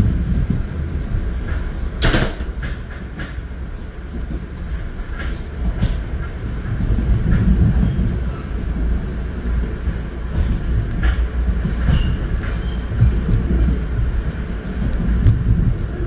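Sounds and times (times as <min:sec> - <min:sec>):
train rumbling on tracks: 0:00.0 - 0:16.0.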